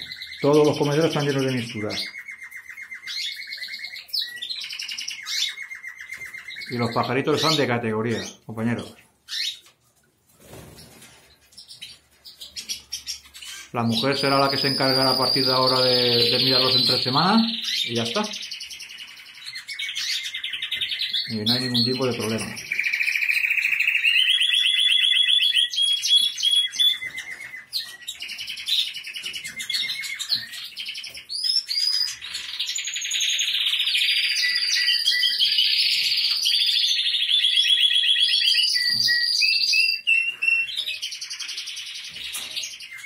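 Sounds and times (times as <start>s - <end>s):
canaries and finches singing: 0.0s - 43.0s.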